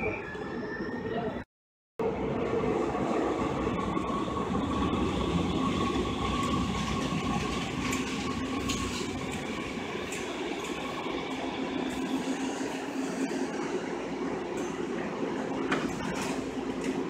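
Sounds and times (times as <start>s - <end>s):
train wheels rumbling on rails: 2.3s - 17.0s.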